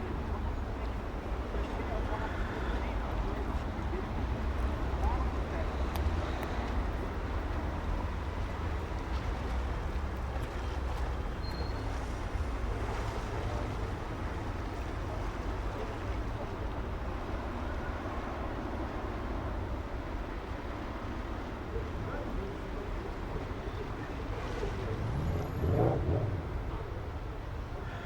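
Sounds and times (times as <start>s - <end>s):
city street traffic rumble: 0.0s - 28.0s.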